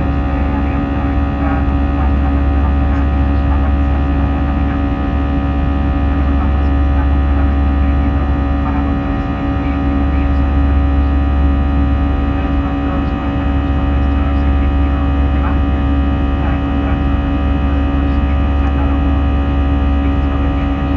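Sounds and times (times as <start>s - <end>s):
airliner cabin engine rumble: 0.0s - 20.9s
steady humming tones: 0.0s - 20.9s.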